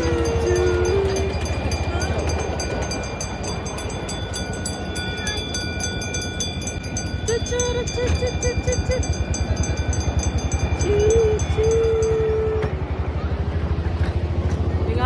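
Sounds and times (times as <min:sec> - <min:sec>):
miniature train clicking: 0:00.0 - 0:13.0, 0:13.6 - 0:14.9
low hum: 0:00.0 - 0:15.0.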